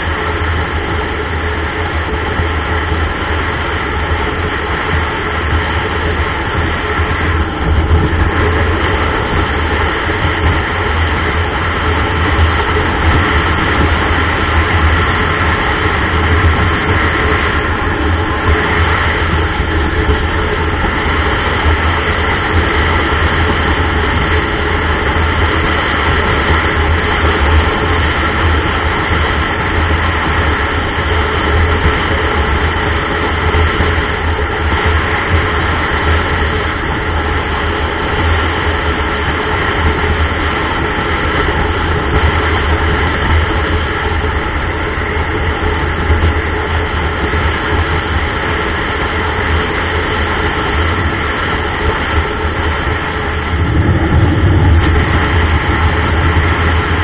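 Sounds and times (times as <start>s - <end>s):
motorcycle engine rumble: 0.0s - 57.0s
wind on microphone: 0.0s - 57.0s.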